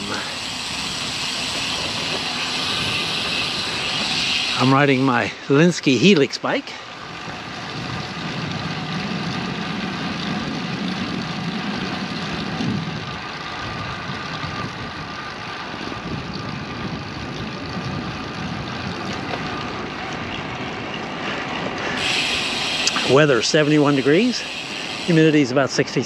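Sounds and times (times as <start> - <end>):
wind rushing on microphone: 0.0 - 6.3, 7.0 - 25.9
bicycle tyre hum: 0.0 - 26.0.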